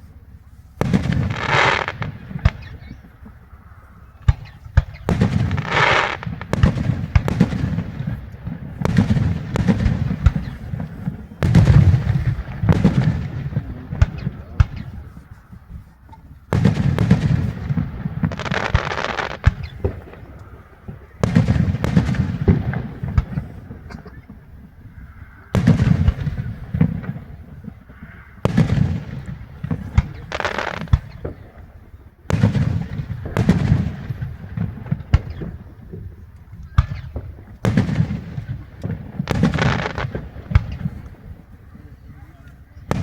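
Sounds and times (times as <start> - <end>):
fireworks booming: 0.0 - 43.0
rumbling echo: 0.0 - 43.0
crackling pops: 0.6 - 43.0.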